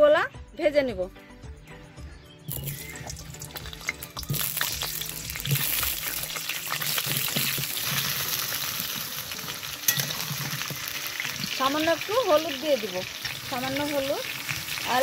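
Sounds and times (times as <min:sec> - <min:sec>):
potatoes sizzling in oil: 0:02.5 - 0:15.0.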